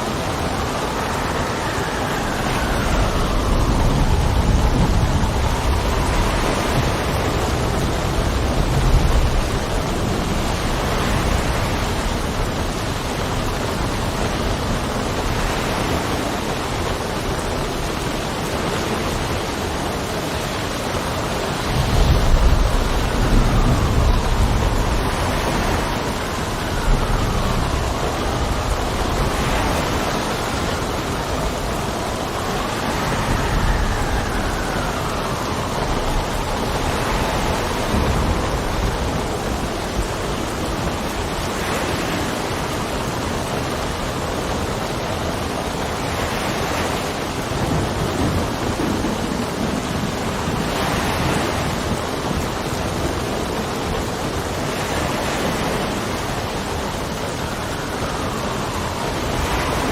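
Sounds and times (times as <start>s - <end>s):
steady rain: 0.0s - 59.9s
wind whistling: 0.0s - 59.9s.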